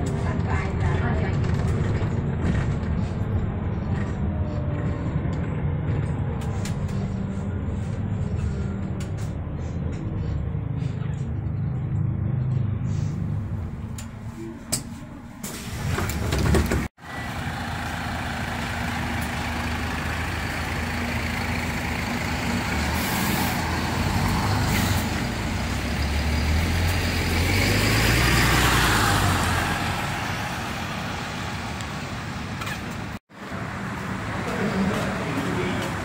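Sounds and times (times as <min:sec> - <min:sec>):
bus engine passing: 0:00.0 - 0:36.0.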